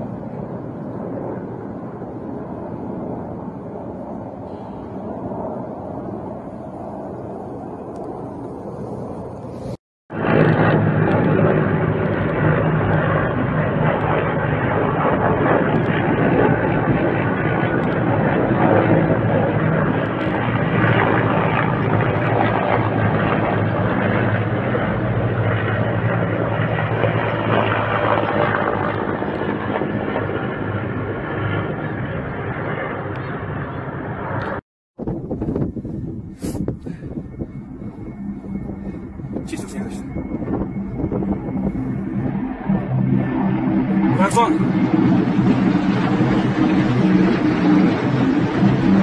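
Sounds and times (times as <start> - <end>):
helicopters flying overhead: 0.0 - 49.0.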